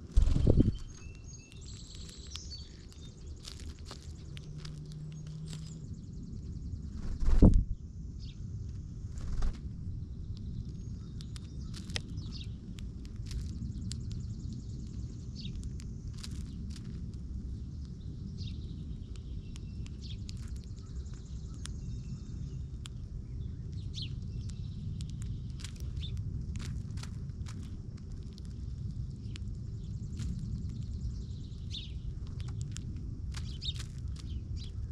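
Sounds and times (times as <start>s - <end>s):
small birds chirping: 0.0s - 34.9s
steady low rumble: 0.0s - 34.9s.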